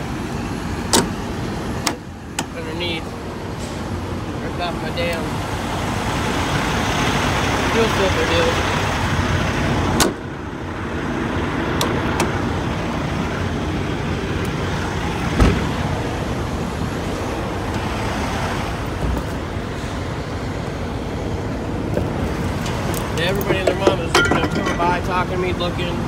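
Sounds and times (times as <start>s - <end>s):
idling trucks and road traffic: 0.0s - 26.0s.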